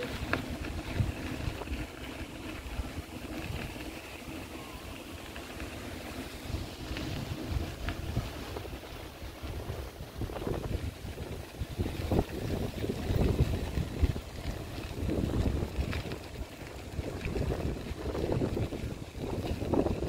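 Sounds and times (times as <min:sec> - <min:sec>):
city ambience hum: 0:00.0 - 0:20.0
wind buffeting microphone: 0:00.0 - 0:20.0.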